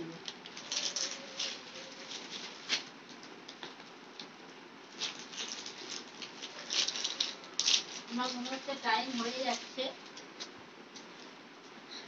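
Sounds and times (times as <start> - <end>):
plastic packaging crinkling: 0.2 - 4.3, 4.9 - 10.5.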